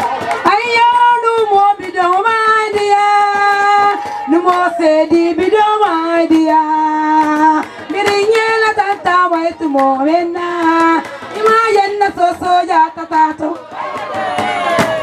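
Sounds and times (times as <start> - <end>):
sharp percussive beats: 0.0 - 15.0
woman singing: 0.4 - 13.6.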